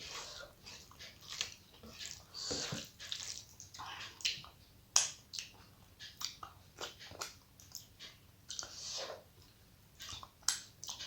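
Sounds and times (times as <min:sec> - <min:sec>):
person chewing with wet smacks: 0:00.1 - 0:11.0.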